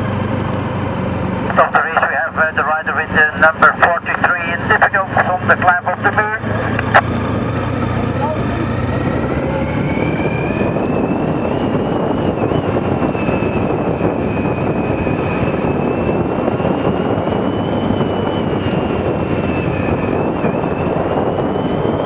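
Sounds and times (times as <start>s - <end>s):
motorcycle engine and tyre rumble: 0.0s - 1.6s, 5.2s - 22.0s
high whine: 0.0s - 22.0s.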